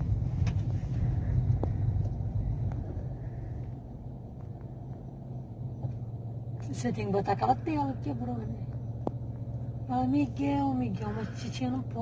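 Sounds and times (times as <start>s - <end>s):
car engine rumble inside cabin: 0.0s - 12.0s
road noise: 0.0s - 12.0s.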